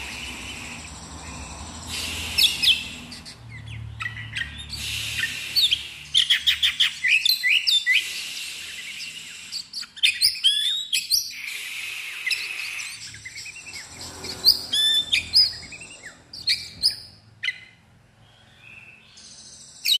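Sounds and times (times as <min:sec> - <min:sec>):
bird singing chirps and trills: 0:00.0 - 0:20.0.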